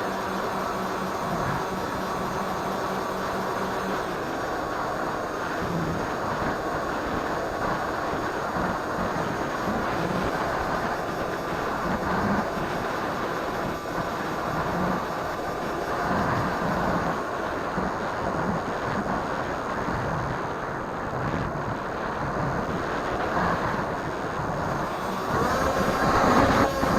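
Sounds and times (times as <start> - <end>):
plane motor and propeller drone: 0.0 - 26.9
wind over microphone: 0.0 - 26.9.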